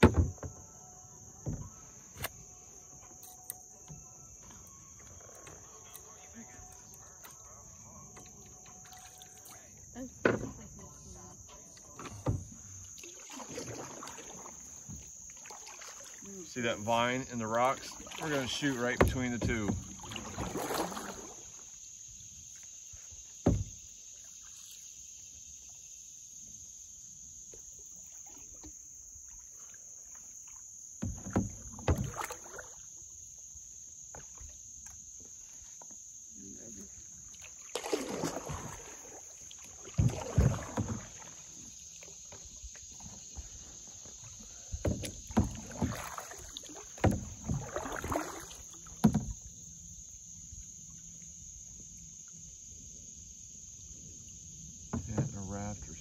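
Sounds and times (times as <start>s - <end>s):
canoe paddle splashing: 0.0s - 56.0s
high insect drone: 0.0s - 56.0s.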